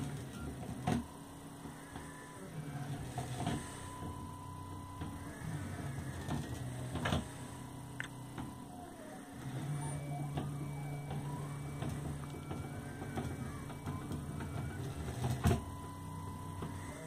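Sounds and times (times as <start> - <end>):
small motors whirring: 0.0 - 17.0.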